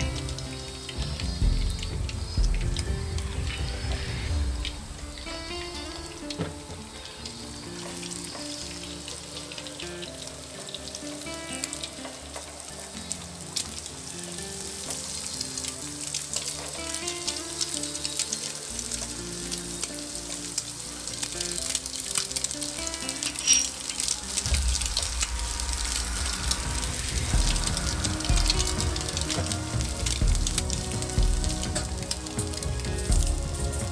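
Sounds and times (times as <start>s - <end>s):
food sizzling in hot oil: 0.0s - 33.9s.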